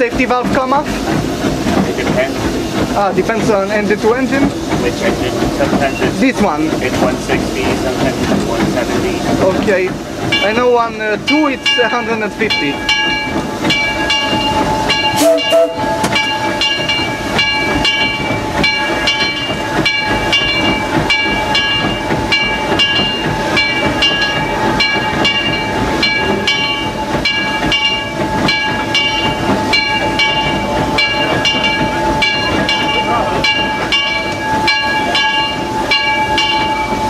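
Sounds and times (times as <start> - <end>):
locomotive running noise: 0.0 - 37.0
steam hiss: 0.0 - 37.0.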